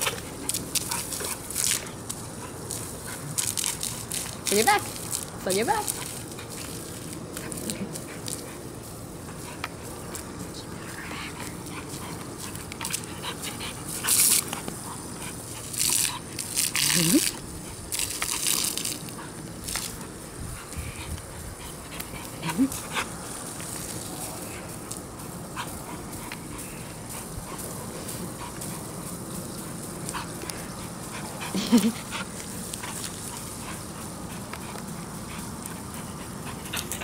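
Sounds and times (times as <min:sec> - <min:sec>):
spray striking dog: 0:00.0 - 0:10.5, 0:11.1 - 0:37.0
garden hose jet hissing and splashing: 0:00.0 - 0:37.0.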